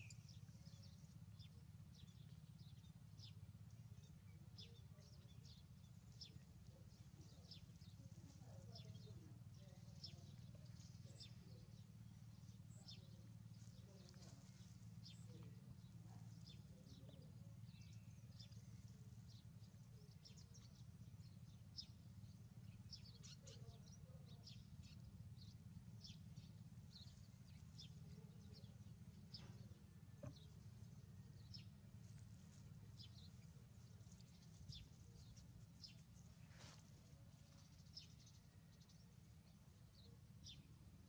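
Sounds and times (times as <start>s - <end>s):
low steady hum: 0.0s - 41.0s
small birds chirping: 0.0s - 41.0s.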